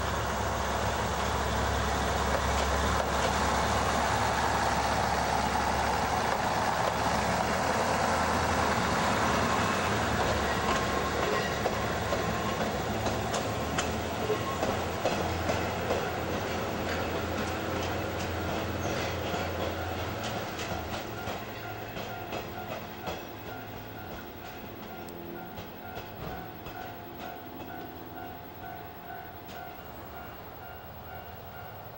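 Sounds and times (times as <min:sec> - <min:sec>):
train wheels clicking over rail joints: 0:00.0 - 0:31.8
diesel railcar engine drone: 0:00.0 - 0:31.9.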